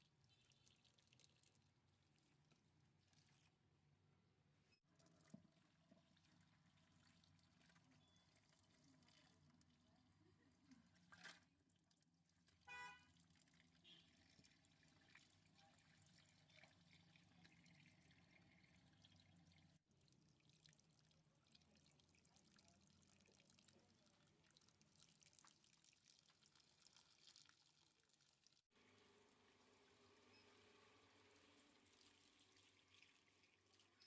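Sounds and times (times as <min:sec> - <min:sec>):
water pouring and trickling: 0:00.0 - 0:03.6, 0:04.8 - 0:34.0.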